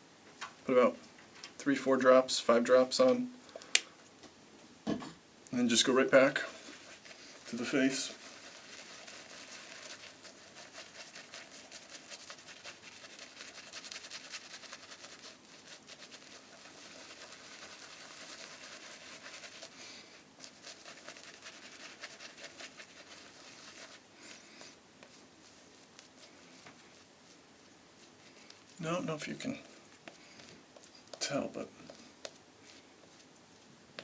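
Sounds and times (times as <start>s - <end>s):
shaving brush swishing lather: 6.2s - 33.7s.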